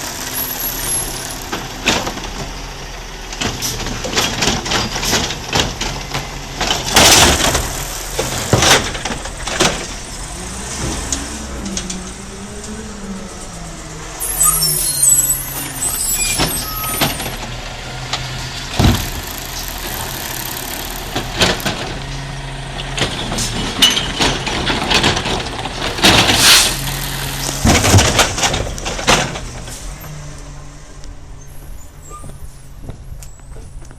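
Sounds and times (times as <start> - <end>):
garbage truck engine running: 0.0 - 30.8.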